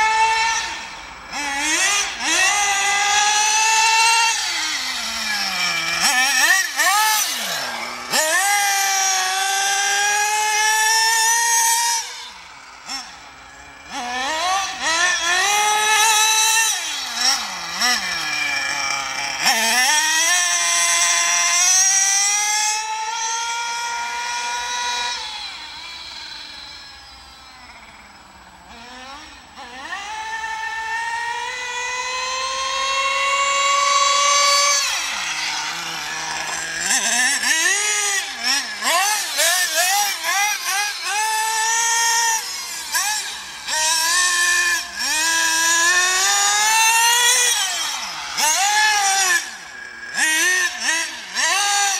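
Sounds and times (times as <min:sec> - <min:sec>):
rc car engine revving: 0:00.0 - 0:51.9.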